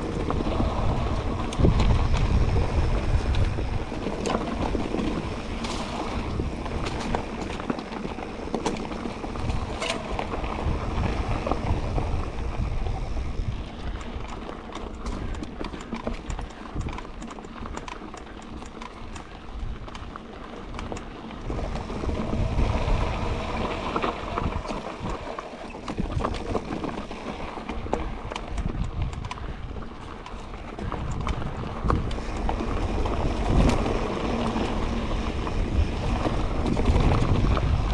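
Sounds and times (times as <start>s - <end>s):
bike rattling and clicking: 0.0s - 37.9s
bike tyres rolling over rocks: 0.0s - 37.9s
wind rumble on microphone: 0.0s - 37.9s.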